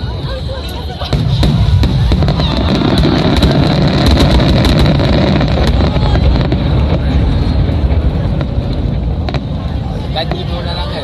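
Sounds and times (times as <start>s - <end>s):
fireworks bursting: 0.1s - 11.0s.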